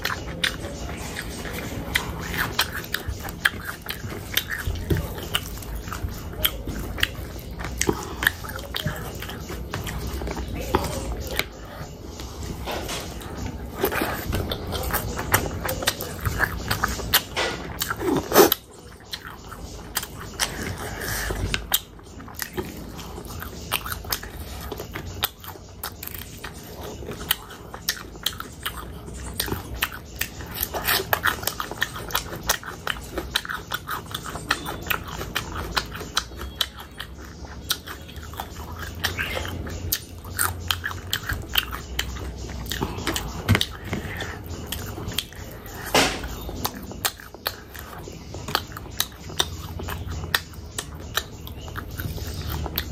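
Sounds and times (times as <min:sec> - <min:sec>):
close-miked chewing: 0:00.0 - 0:52.9.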